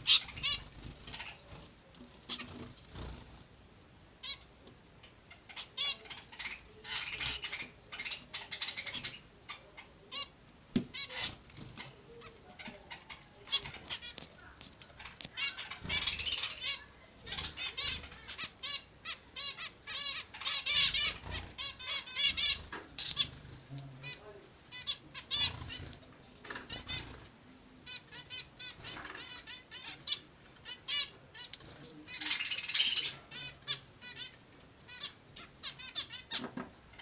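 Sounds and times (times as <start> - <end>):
finch chicks chirping: 0.0 - 3.4, 4.2 - 37.0.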